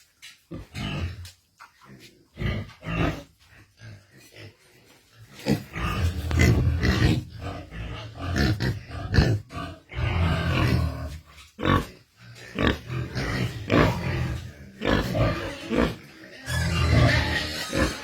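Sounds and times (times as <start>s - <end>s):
pigs grunting: 0.5s - 18.0s.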